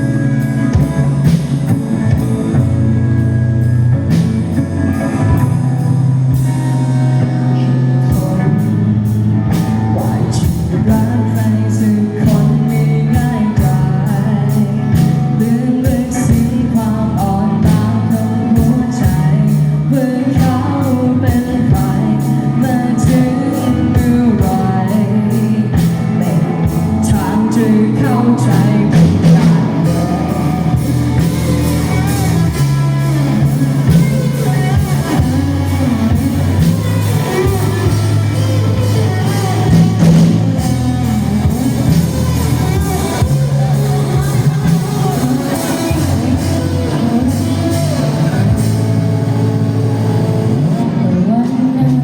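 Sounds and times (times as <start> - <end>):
person singing: 0.0 - 52.0
rock band playing: 0.0 - 52.0.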